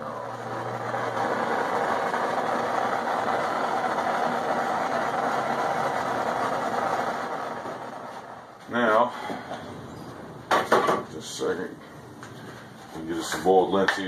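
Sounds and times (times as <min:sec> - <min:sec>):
torch flame blowing: 0:00.0 - 0:13.2.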